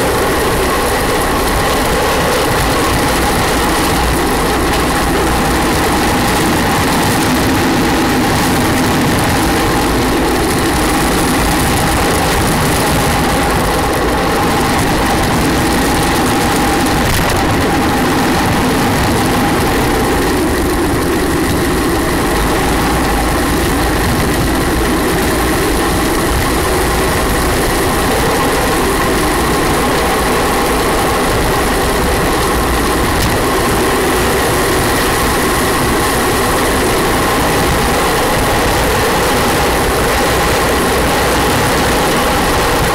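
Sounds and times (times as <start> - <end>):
wheels rolling on asphalt: 0.0 - 42.9.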